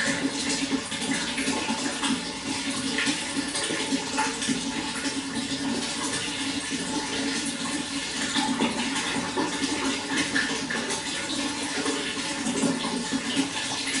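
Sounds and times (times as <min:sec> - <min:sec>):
running water gurgling: 0:00.0 - 0:14.0.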